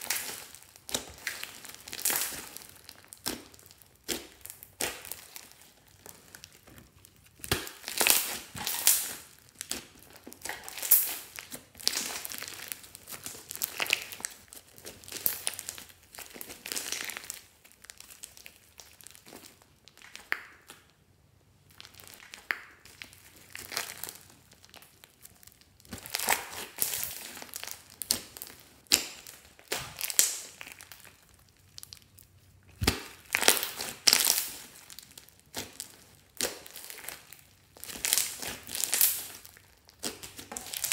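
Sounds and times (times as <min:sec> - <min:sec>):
slime crackling and popping: 0:00.0 - 0:21.0, 0:21.6 - 0:40.9.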